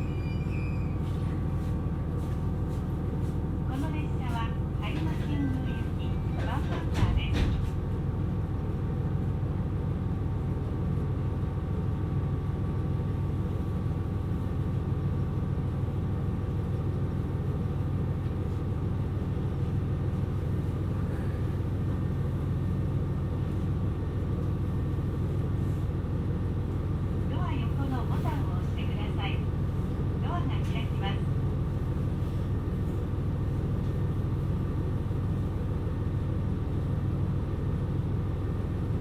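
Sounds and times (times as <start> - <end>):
railcar low rumble: 0.0 - 39.0.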